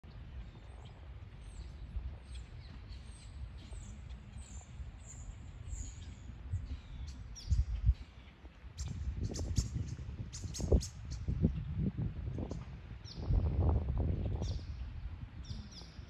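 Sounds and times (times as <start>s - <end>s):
small birds chirping: 0.0s - 11.7s, 14.3s - 16.0s
low outdoor rumble: 0.0s - 16.0s.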